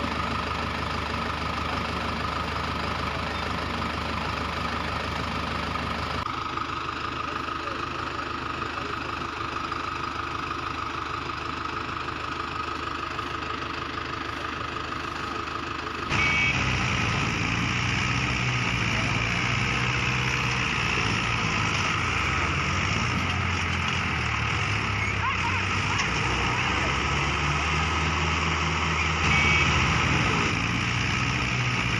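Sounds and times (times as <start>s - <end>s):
heavy vehicle engine running: 0.0s - 31.9s.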